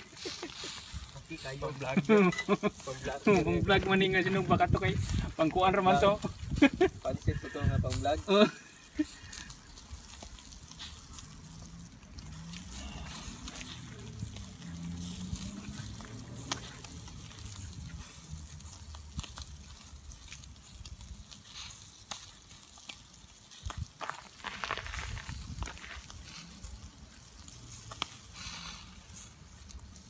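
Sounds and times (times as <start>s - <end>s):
meat sizzling on charcoal: 0.0s - 30.0s.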